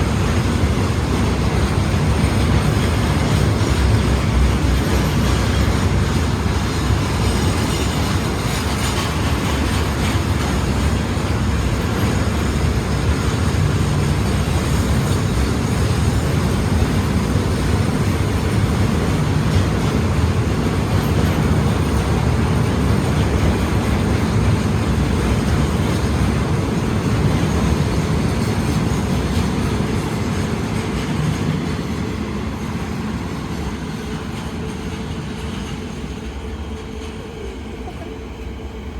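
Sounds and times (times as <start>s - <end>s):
train wheels on rail: 0.0s - 38.9s.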